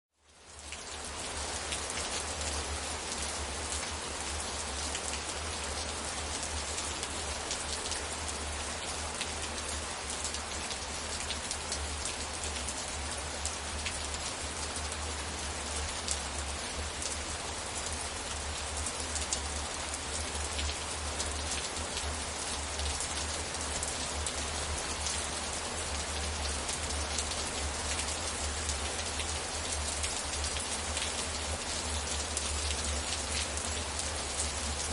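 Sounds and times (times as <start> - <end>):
steady rainfall: 0.1 - 34.9.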